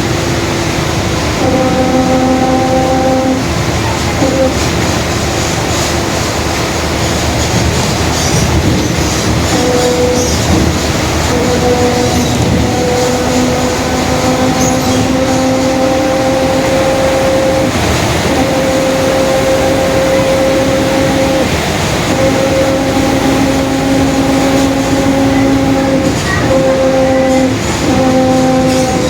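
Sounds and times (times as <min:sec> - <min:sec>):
bus engine and road noise: 0:00.0 - 0:29.0
differential whining: 0:00.0 - 0:29.0.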